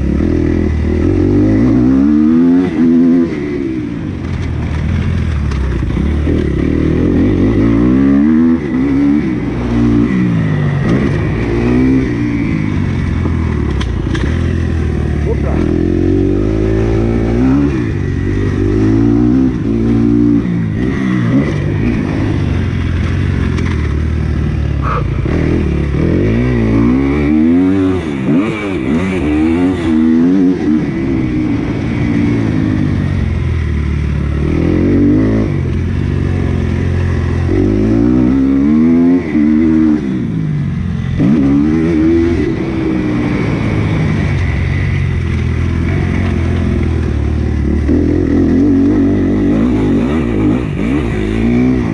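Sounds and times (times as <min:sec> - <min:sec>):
motocross bike engine revving: 0:00.0 - 0:31.2, 0:33.9 - 0:51.9.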